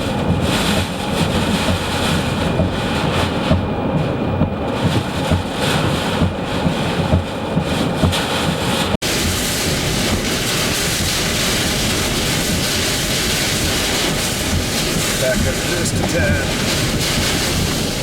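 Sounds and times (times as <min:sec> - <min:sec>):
rush of wind: 0:00.0 - 0:18.0
wind buffeting microphone: 0:00.0 - 0:18.0.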